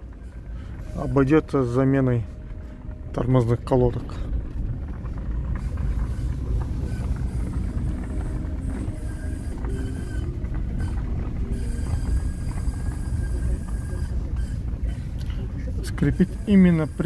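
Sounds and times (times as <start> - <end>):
car brakes squealing: 0.0 - 2.2, 5.5 - 17.0
moving car rumble: 0.0 - 17.0.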